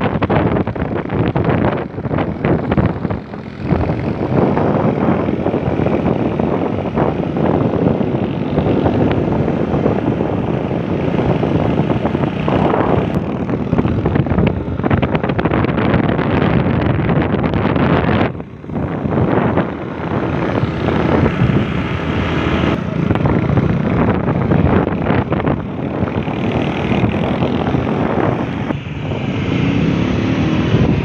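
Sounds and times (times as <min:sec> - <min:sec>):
motorcycle engine running: 0:00.0 - 0:31.0
wind rush on microphone: 0:00.0 - 0:31.0.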